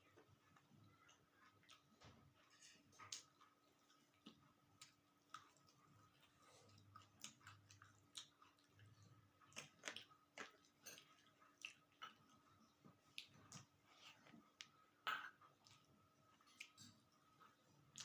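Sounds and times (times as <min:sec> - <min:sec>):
faint steady hum: 0:00.0 - 0:18.0
person chewing: 0:00.1 - 0:18.0.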